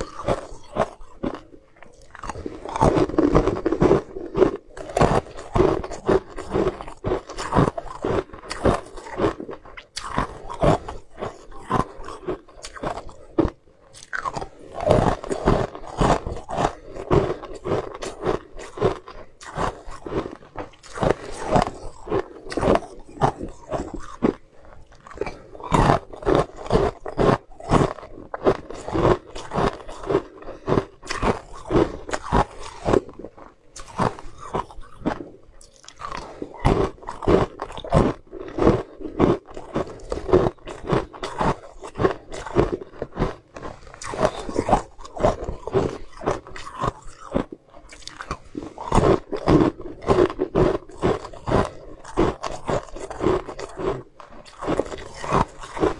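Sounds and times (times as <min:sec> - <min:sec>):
crunching and chewing frozen treats: 0:00.0 - 0:55.9.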